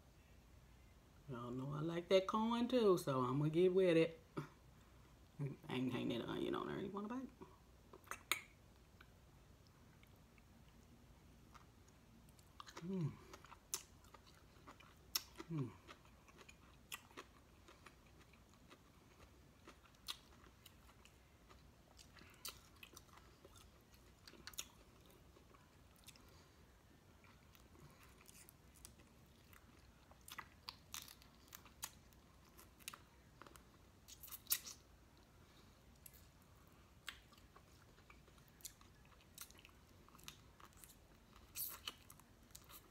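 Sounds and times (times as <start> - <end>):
soft chewing: 7.4 - 42.9.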